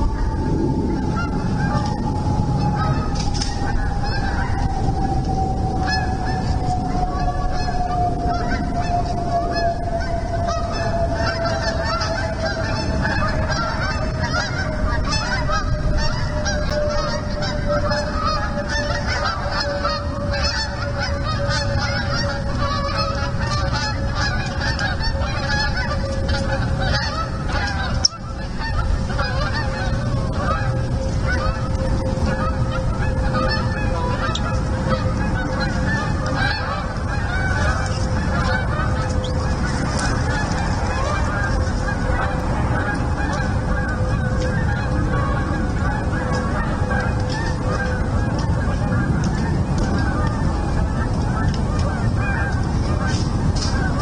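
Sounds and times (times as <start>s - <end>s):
geese honking: 0.0s - 54.0s
steady hum falling in pitch: 0.0s - 54.0s.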